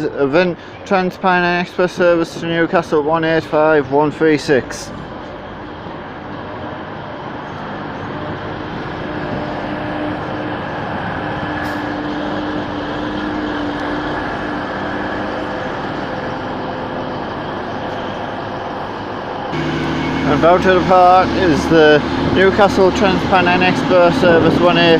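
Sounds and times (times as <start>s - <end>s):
diesel train engines droning: 0.0s - 24.9s.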